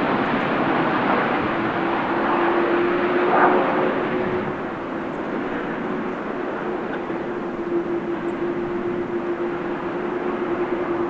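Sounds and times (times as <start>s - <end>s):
jet engine rush and hum: 0.0s - 11.0s.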